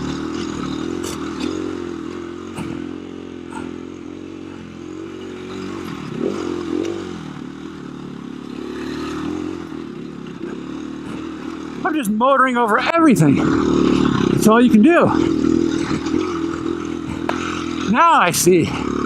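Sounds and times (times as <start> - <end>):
dirt bike engine under throttle: 0.0 - 19.0.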